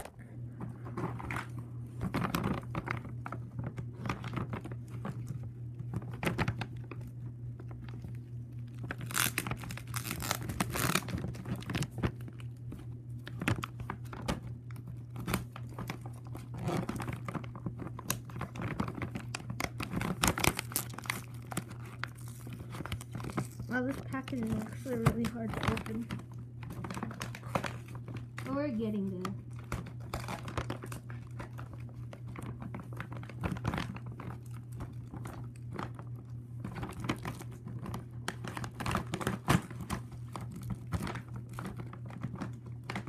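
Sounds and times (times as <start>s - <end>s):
packaging tearing and crinkling: 1.1s - 28.7s, 29.4s - 43.0s.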